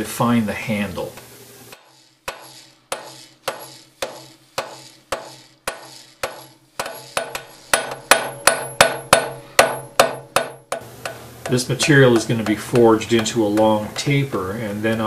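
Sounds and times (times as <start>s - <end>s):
hammer striking hot iron on anvil: 1.7s - 15.0s.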